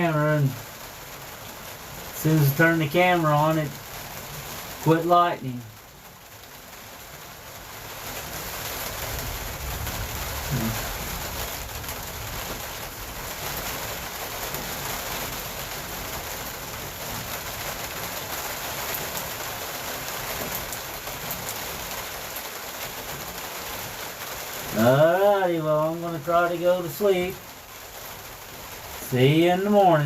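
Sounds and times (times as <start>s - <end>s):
heavy rain on a truck: 0.0s - 30.0s.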